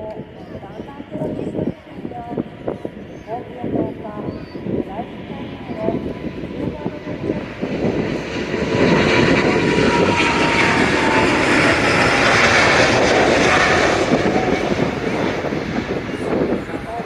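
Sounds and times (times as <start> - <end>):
jet engines at takeoff: 0.0 - 17.0
wind buffeting microphone: 0.0 - 17.0.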